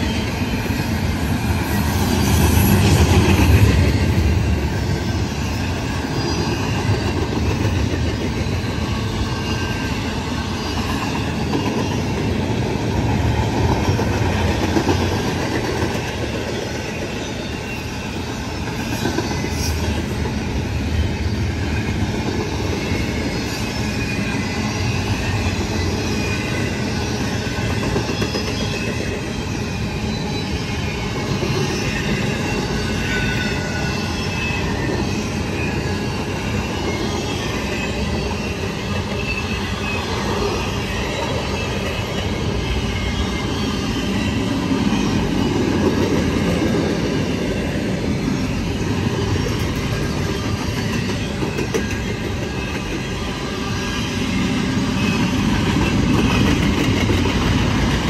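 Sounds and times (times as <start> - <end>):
high wheel squeal: 0.0 - 14.0, 16.0 - 58.0
train wheels rumbling on rails: 0.0 - 58.0.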